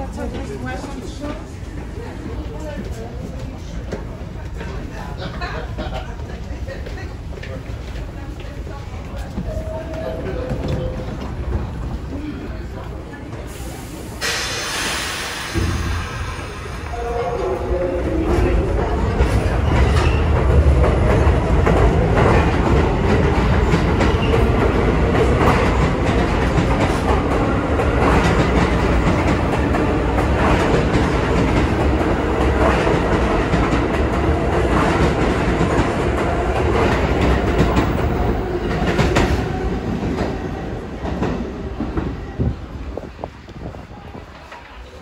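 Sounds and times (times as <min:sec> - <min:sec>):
subway train rumbling past: 0:00.0 - 0:45.0.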